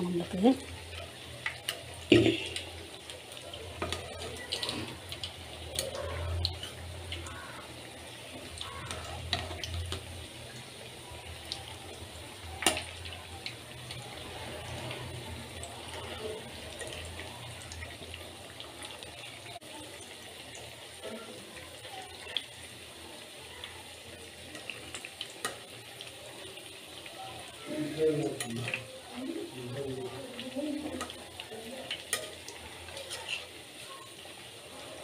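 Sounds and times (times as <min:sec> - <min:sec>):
deep-frying oil sizzling: 0:00.0 - 0:35.0.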